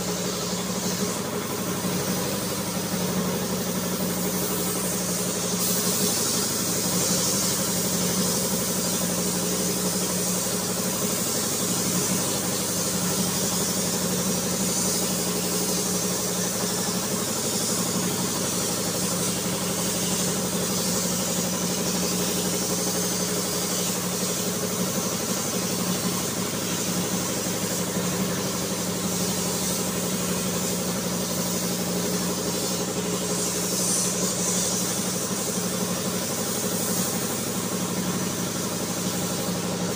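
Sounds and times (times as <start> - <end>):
machine hum with high hiss: 0.0 - 39.9.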